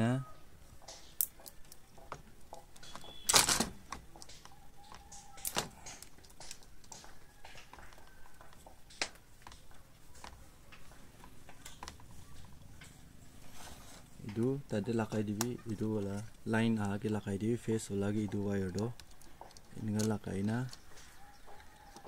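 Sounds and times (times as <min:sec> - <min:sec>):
hands clicking and rustling wire: 0:00.6 - 0:22.0.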